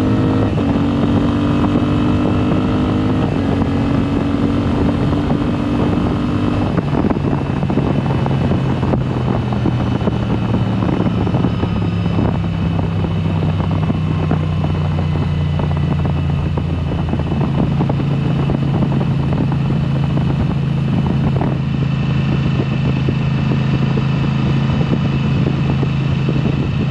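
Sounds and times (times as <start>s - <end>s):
motorcycle engine running: 0.0s - 26.9s
wind and road noise: 0.0s - 26.9s.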